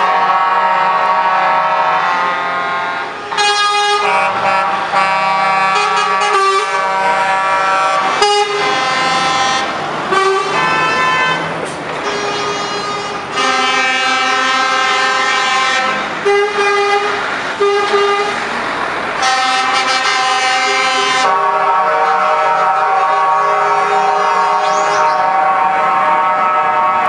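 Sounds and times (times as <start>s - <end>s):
truck horns blasting: 0.0s - 27.0s
trucks driving past: 0.0s - 27.0s.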